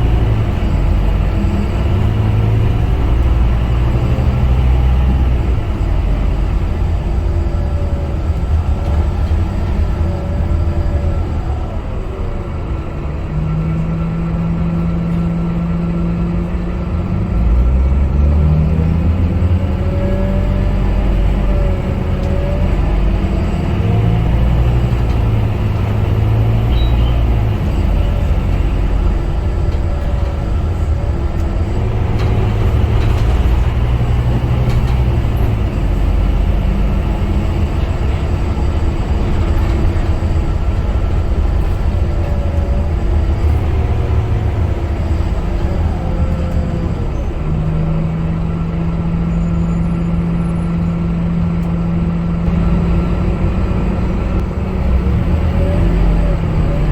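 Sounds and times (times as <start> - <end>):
bus diesel engine droning: 0.0 - 56.9.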